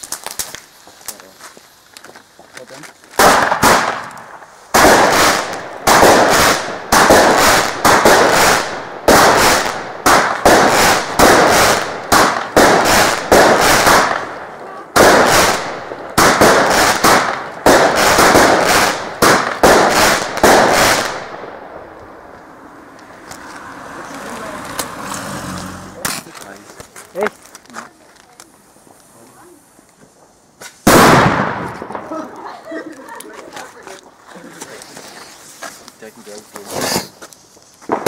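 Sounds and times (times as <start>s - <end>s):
fireworks bangs: 0.0s - 32.7s, 36.2s - 38.0s.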